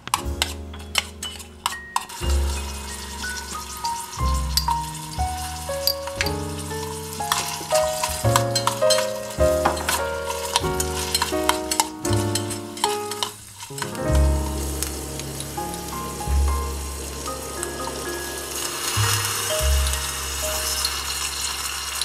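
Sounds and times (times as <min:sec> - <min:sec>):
background music: 0:00.0 - 0:22.0
spoon stirring: 0:00.1 - 0:21.8
meat sizzling in a pot: 0:01.0 - 0:22.0.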